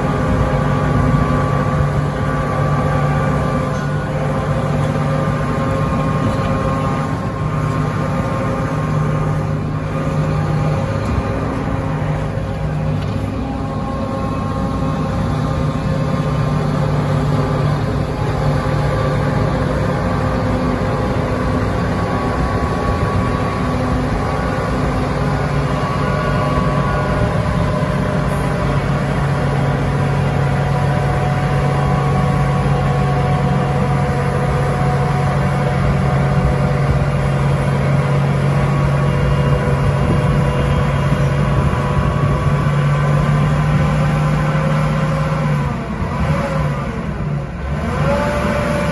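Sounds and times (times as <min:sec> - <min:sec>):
snowplow engine droning: 0:00.0 - 0:48.9.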